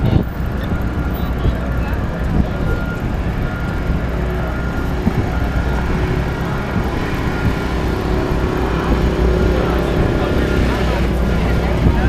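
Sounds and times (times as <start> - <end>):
heavy low rumble: 0.0 - 12.0
traffic: 0.0 - 12.0.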